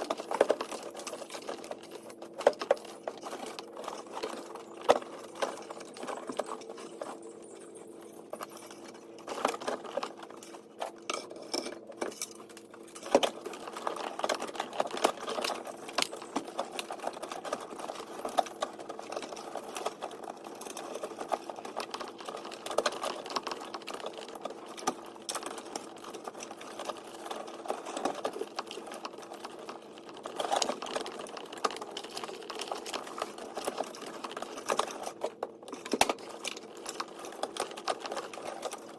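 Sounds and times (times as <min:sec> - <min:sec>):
hand tools clicking and rattling: 0:00.0 - 0:38.9.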